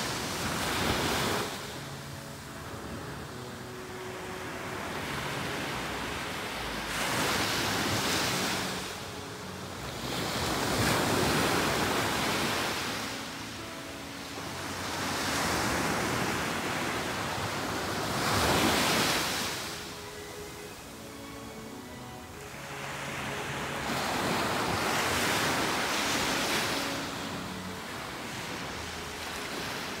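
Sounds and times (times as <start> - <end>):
waves breaking on beach: 0.0 - 30.0.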